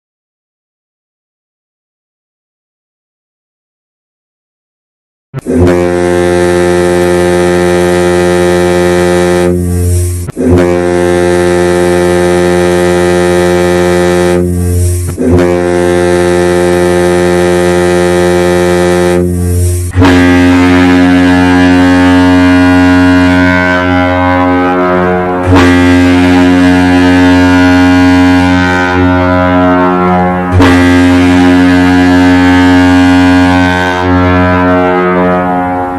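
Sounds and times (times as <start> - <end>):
deep ship horn blasts: 5.4 - 35.9.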